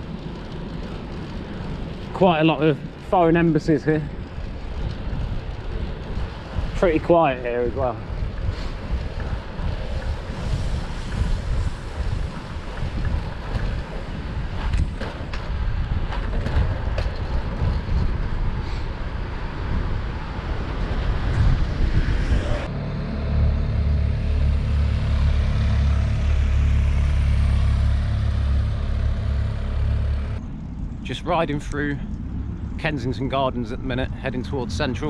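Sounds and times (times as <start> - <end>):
road and tyre noise: 0.0 - 35.0
wind rushing over microphone: 0.0 - 35.0.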